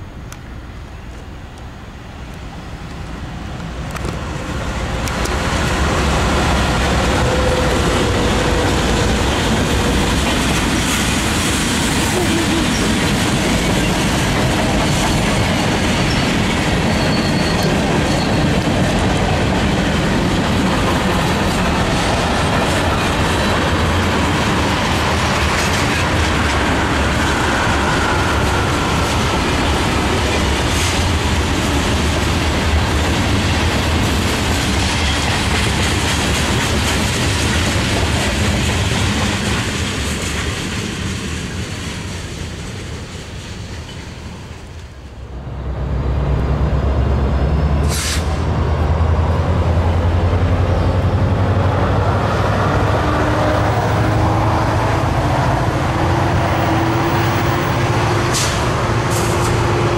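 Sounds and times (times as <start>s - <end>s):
diesel locomotives passing: 0.0s - 59.9s.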